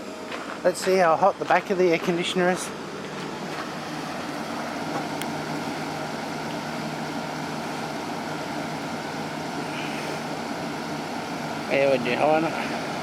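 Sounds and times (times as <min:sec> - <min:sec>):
air conditioner fan humming: 0:00.0 - 0:13.0.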